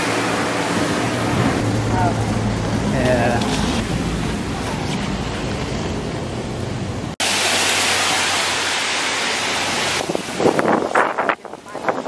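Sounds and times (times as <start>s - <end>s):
wind and rain: 0.0s - 12.0s
rain hissing on a wet street: 0.6s - 12.0s.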